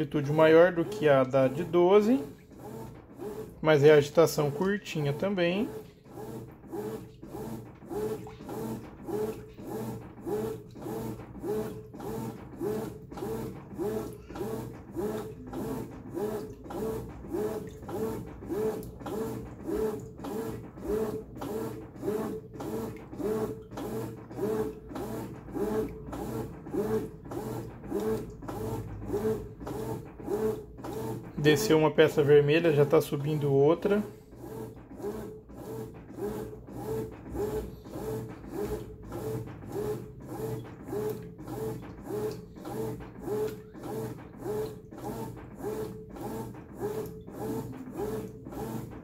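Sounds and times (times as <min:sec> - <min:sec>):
washing machine agitating: 0:00.0 - 0:49.0.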